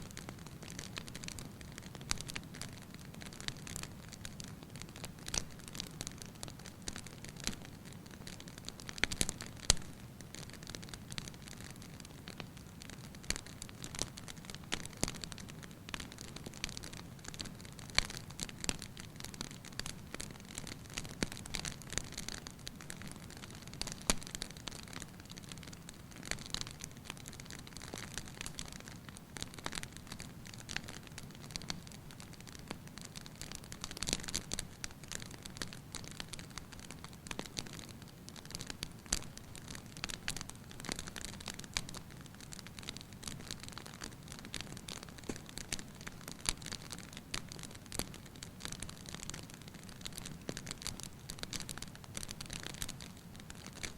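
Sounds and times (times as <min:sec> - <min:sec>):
fire crackling in fireplace: 0:00.0 - 0:53.9.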